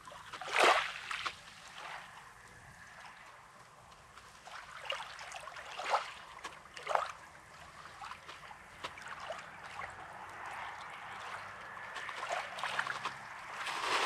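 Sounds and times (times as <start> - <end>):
small waves lapping at rocky shore: 0.0 - 14.0
water splashes: 0.0 - 14.0.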